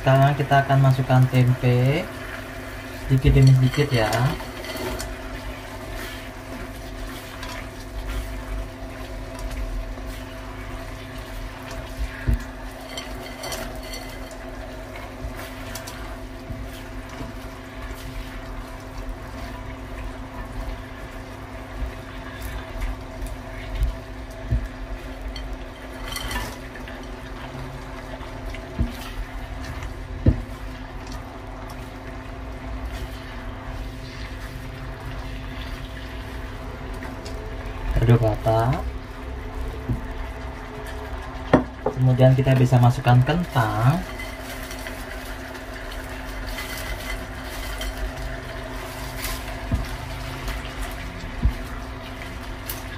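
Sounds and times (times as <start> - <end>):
sauce bubbling and sizzling in a wok: 0.0 - 52.9
steady hum: 0.0 - 52.9.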